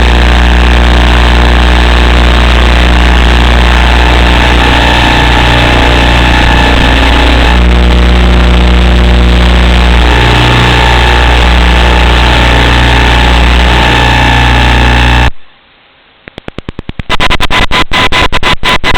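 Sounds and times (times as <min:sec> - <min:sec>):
drone motors and propellers: 0:00.0 - 0:15.3.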